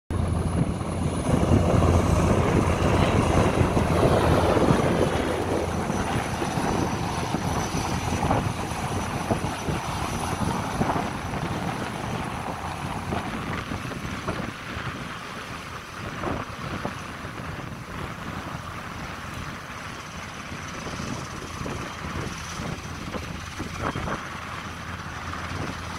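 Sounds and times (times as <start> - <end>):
helicopter rotor rumbling: 0.1 - 25.9
high turbine whine: 0.1 - 25.9.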